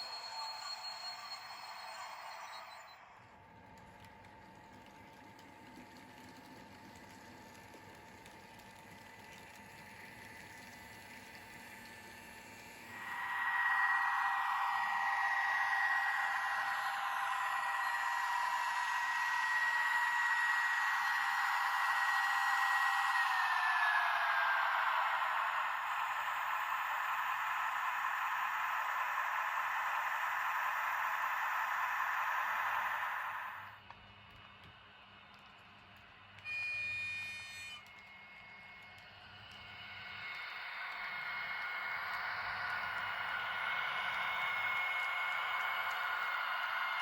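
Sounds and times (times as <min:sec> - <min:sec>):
model locomotive motor whining: 0:00.0 - 0:47.0.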